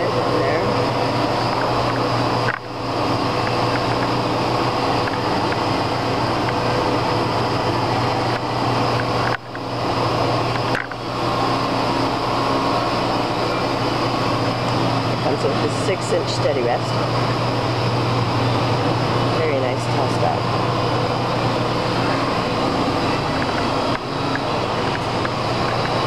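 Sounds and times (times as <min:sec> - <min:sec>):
machine-shop hum and whir: 0:00.0 - 0:26.0.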